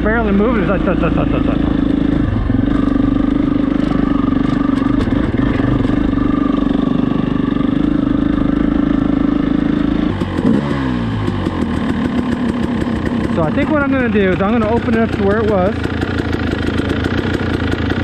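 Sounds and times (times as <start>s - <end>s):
dirt bike engine chugging: 0.0s - 18.0s.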